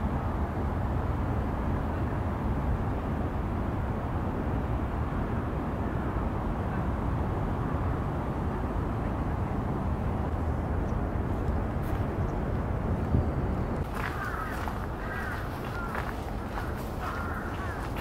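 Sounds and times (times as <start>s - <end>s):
city background hum: 0.0s - 18.0s.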